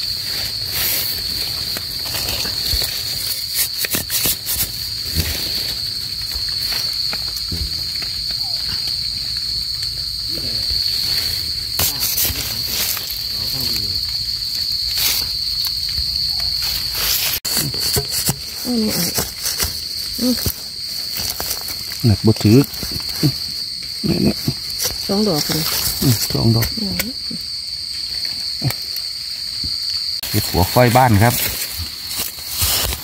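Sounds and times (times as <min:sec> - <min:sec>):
night insects chirring: 0:00.0 - 0:33.0.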